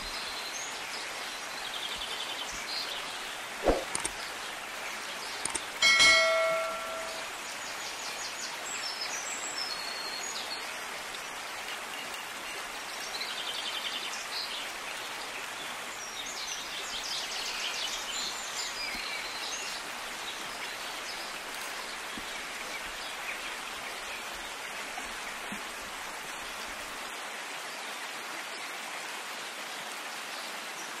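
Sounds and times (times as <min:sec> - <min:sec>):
steady outdoor hiss: 0:00.0 - 0:31.0.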